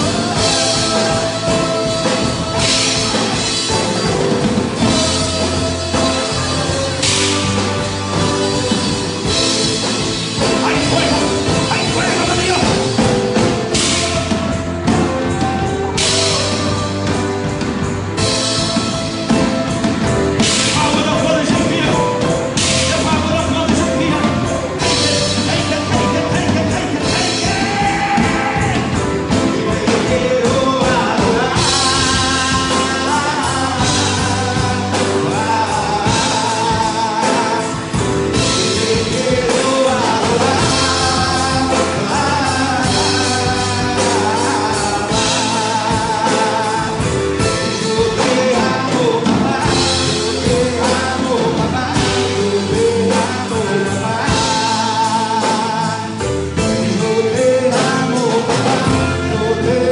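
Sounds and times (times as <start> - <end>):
drum kit: 0.0 - 59.9
electric guitars: 0.0 - 59.9
man singing into a microphone: 0.0 - 59.9.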